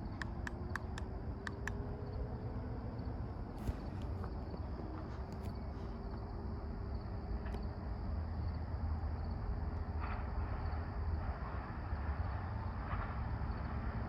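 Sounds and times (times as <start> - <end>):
distant train rumble: 0.0 - 14.0.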